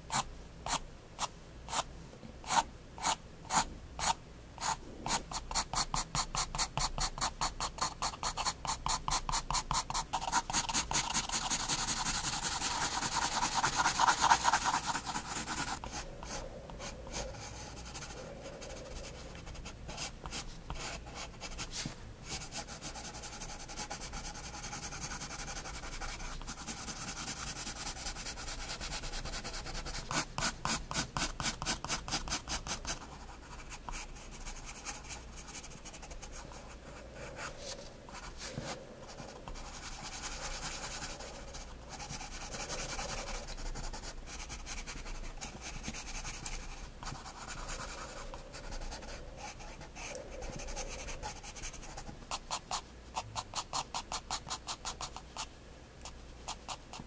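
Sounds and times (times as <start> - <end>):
pencil scratching on paper: 2.5 - 57.0.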